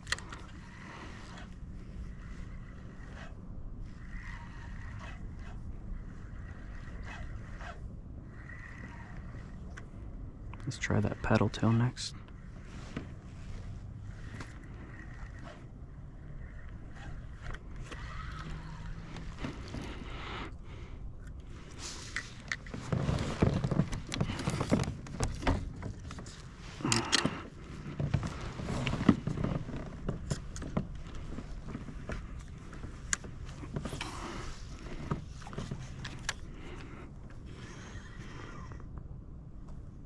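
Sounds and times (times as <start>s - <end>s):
fishing gear rustling and clicking: 0.0s - 9.9s, 12.3s - 20.6s, 21.2s - 39.0s.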